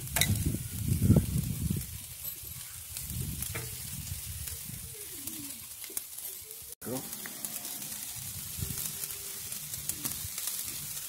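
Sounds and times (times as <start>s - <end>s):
meat sizzling on a charcoal grill: 0.0s - 11.0s.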